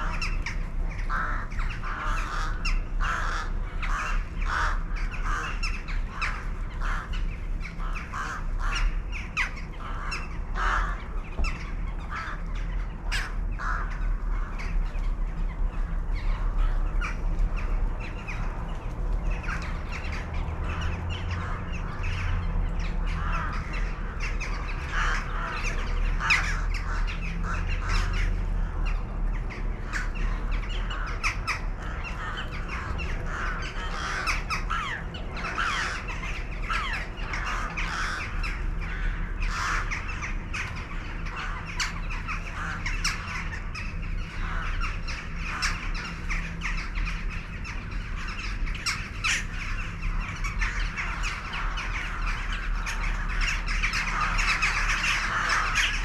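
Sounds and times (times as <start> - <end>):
flock of birds calling: 0.0 - 56.0
steady low rumble: 0.0 - 56.0.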